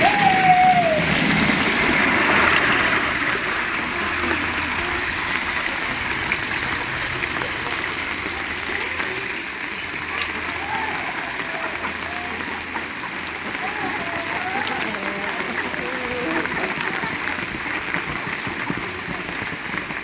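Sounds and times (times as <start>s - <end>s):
heavy rain pouring: 0.0s - 20.0s
water running and splashing: 0.0s - 20.0s.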